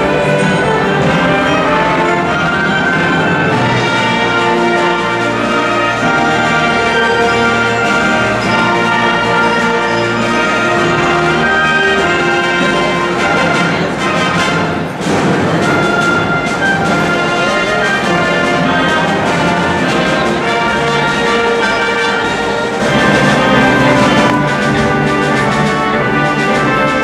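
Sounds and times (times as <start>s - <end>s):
orchestra with brass playing: 0.0s - 27.0s.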